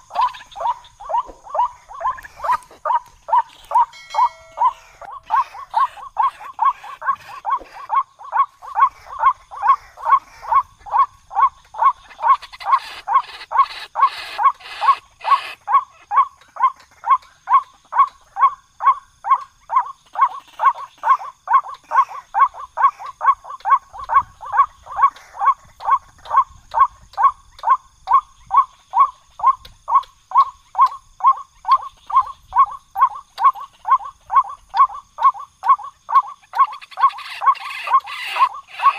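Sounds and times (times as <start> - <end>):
waterhen calling: 0.0 - 18.5, 19.3 - 38.9.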